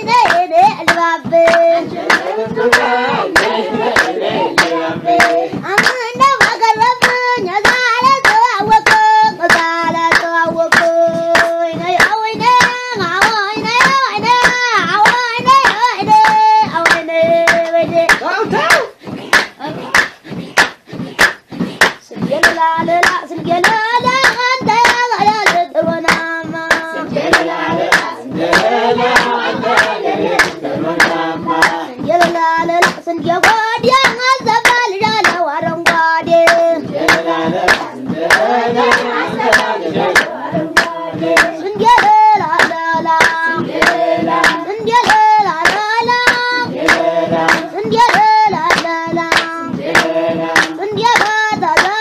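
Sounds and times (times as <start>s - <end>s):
group of voices singing: 0.0s - 52.0s
rhythmic hand clapping: 0.0s - 52.0s.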